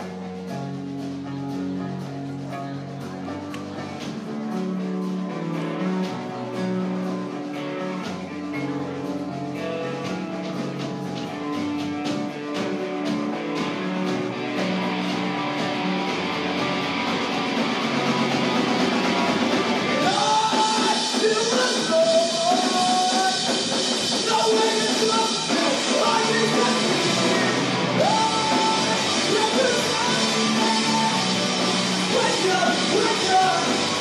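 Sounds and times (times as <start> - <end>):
drums on steady beat: 0.0 - 34.0
electric guitars: 0.0 - 34.0.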